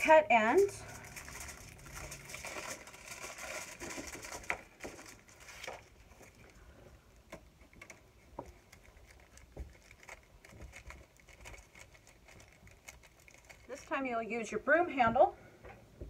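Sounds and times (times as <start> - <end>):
aluminum foil crinkling: 0.5 - 14.6.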